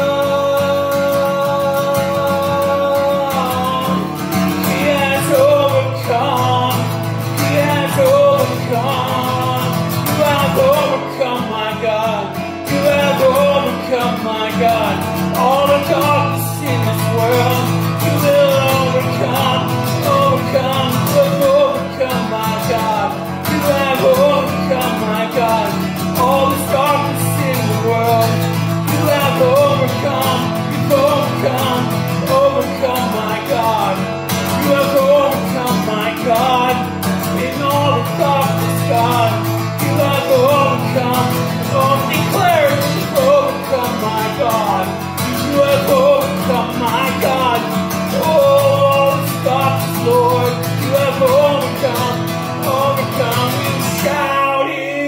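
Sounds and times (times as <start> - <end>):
man singing: 0.0 - 55.0
strummed acoustic guitar: 0.0 - 55.0.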